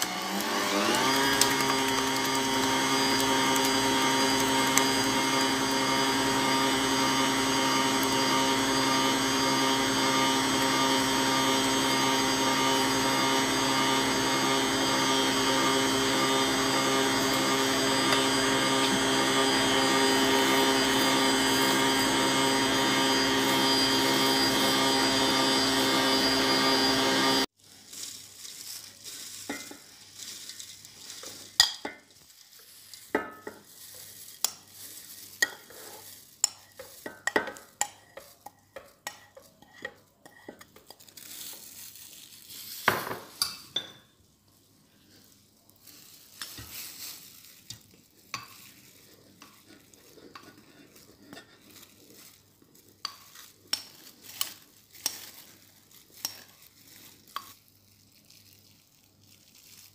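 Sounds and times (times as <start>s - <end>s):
oats and flour pouring into metal bowl: 0.0s - 43.5s, 45.1s - 59.9s.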